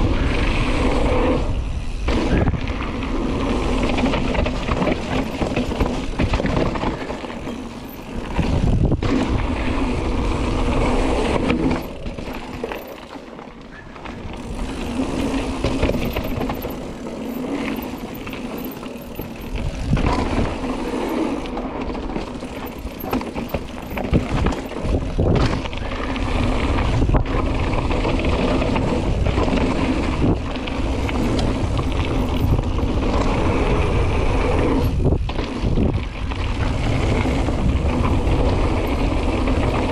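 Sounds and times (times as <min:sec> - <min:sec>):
wind buffeting microphone: 0:00.0 - 0:12.8, 0:13.7 - 0:39.9
bike knocking and rattling: 0:00.0 - 0:39.9
tyres rumbling over dirt: 0:00.0 - 0:39.9.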